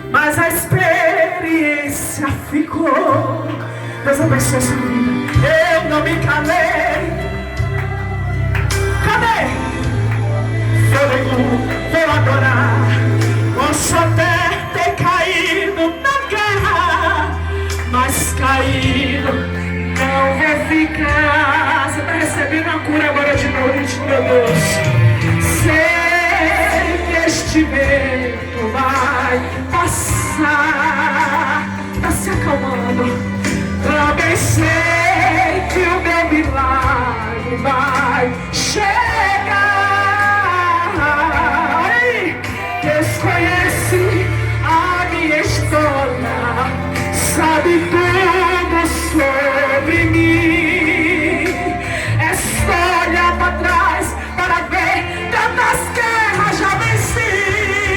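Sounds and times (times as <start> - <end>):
woman singing with vibrato: 0.0 - 57.9
band with bass and cymbals: 4.2 - 57.9.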